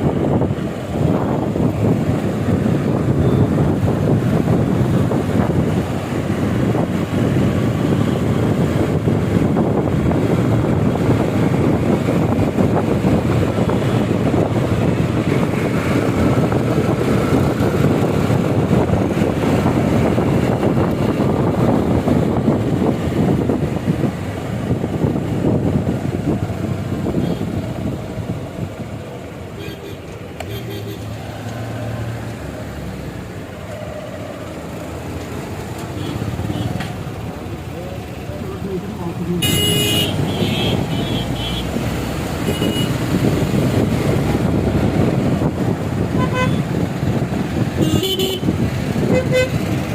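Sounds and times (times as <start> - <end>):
wind buffeting microphone: 0.0 - 29.5, 38.5 - 49.9
motorcycle road noise: 0.0 - 49.9.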